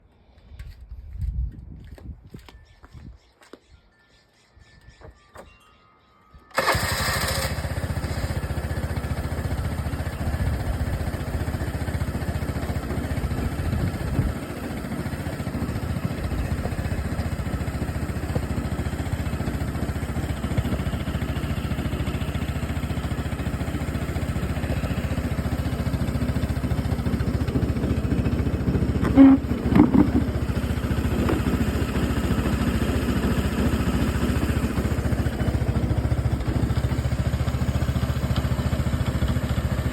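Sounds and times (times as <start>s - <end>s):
scooter engine idling: 6.5s - 39.9s.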